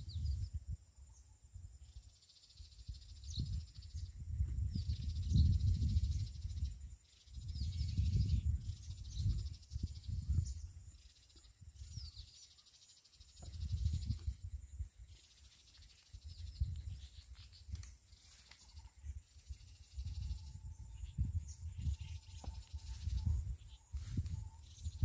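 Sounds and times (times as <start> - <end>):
wind buffeting microphone: 0.0 - 0.9, 2.6 - 12.4, 13.3 - 25.0
bird chirps: 0.0 - 25.0
high insect drone: 0.1 - 25.0.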